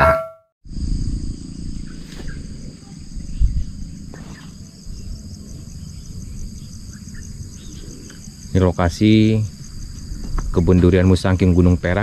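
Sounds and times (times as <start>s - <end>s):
insects shrilling: 0.7s - 12.0s
low rumble on microphone: 0.7s - 12.0s.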